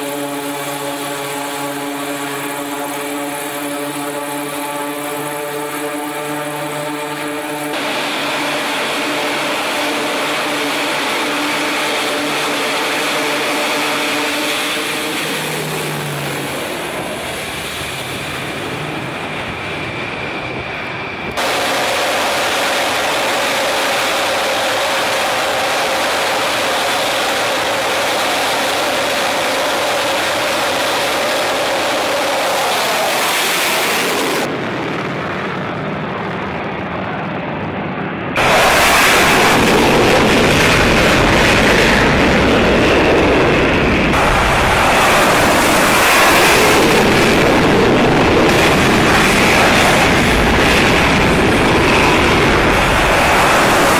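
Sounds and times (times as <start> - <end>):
jet engines roaring: 0.0 - 53.9
turboprop propeller drone: 0.0 - 53.9.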